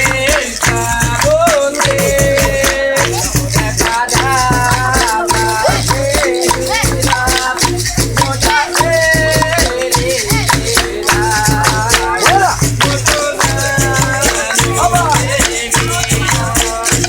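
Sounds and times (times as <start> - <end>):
berimbau playing: 0.0 - 17.0
person singing: 0.0 - 17.0
rhythmic hand clapping: 0.0 - 17.0
shaker rattling: 0.0 - 17.0.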